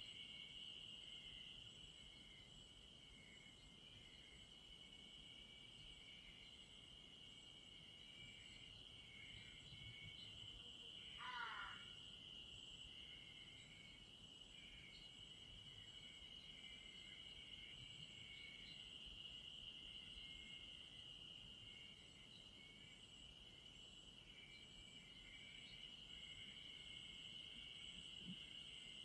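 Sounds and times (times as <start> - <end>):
insects chirring in a high trill: 0.0 - 29.0
soft insect chirps: 0.0 - 29.0.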